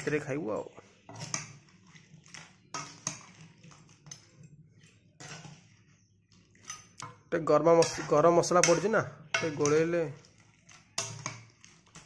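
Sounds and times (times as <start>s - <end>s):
steel ladle clinking and scraping: 1.0s - 12.0s.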